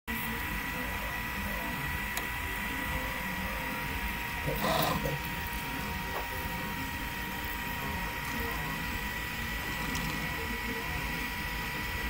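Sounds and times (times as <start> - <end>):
constant high whine: 0.1 - 12.0
printer mechanical whir: 0.1 - 12.0.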